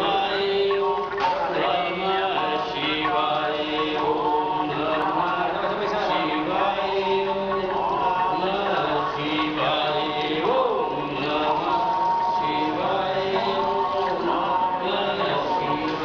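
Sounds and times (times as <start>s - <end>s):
person chanting melodically: 0.0s - 16.0s.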